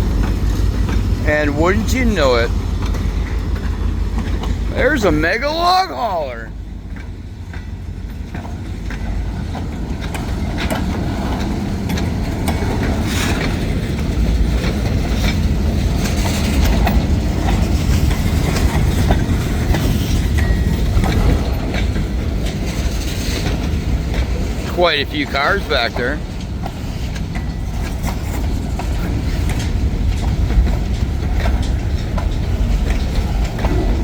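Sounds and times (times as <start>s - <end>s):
freight train rumbling: 0.0s - 34.0s
wheels clacking over rail joints: 0.0s - 34.0s.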